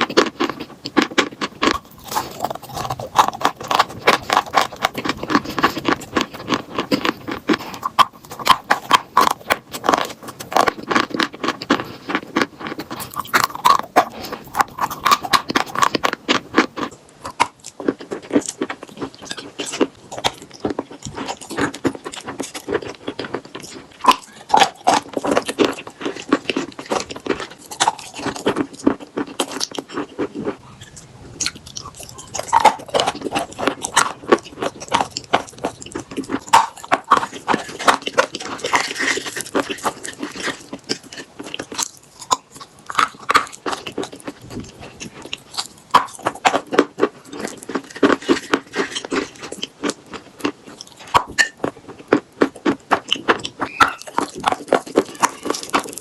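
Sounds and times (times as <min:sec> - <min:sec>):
chalk crunching and chewing: 0:00.0 - 0:56.0.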